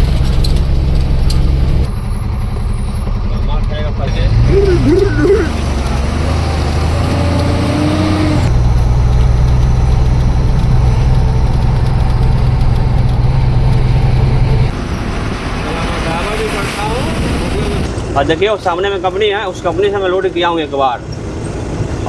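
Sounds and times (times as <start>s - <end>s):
truck diesel engine driving: 0.0s - 18.2s.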